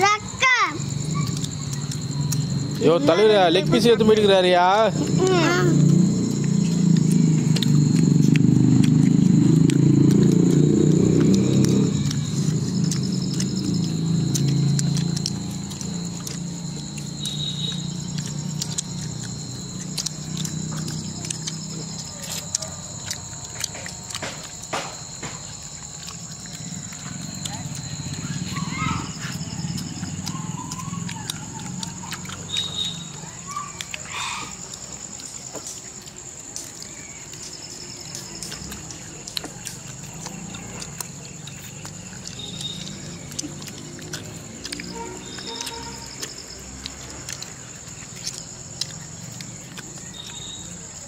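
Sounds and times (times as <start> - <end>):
wet chewing and smacking: 0.2 - 51.0
meat tearing clicks: 5.9 - 51.0.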